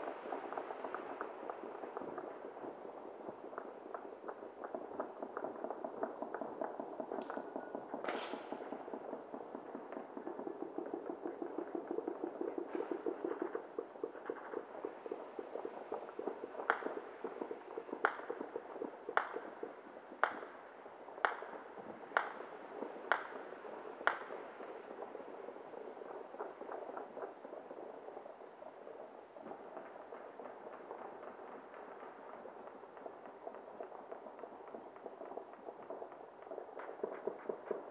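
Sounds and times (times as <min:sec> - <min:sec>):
distant fireworks crackling: 0:00.0 - 0:37.9.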